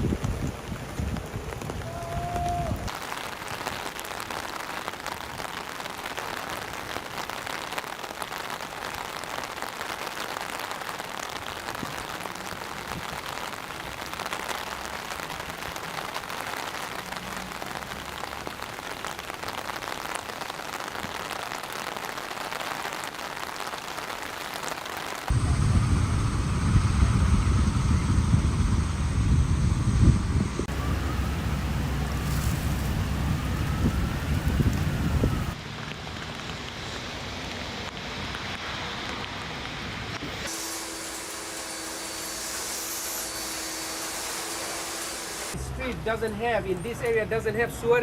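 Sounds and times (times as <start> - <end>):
rain on a hard surface: 0.0 - 28.9, 30.6 - 47.9.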